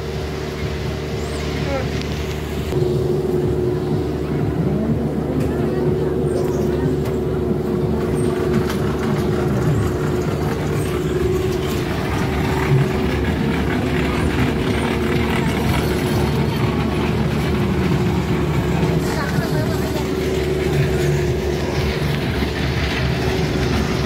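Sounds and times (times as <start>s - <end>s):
fairground ride mechanical hum: 0.0s - 24.0s
ride cars and wheels running: 0.0s - 24.0s.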